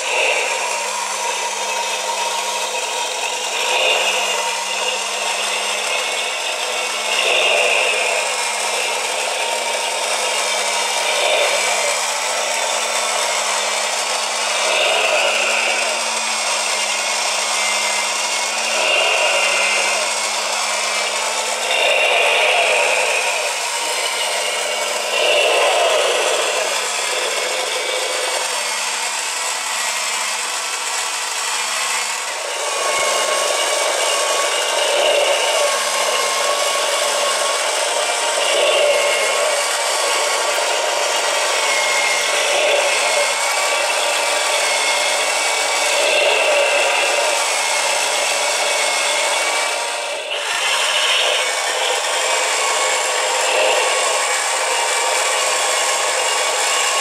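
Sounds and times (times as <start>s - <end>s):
small electric motor whirring: 0.0s - 57.0s.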